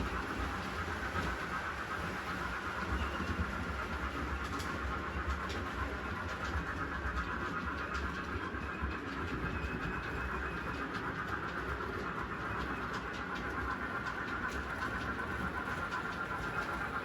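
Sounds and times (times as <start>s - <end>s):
wheels clicking over track: 0.0s - 17.0s.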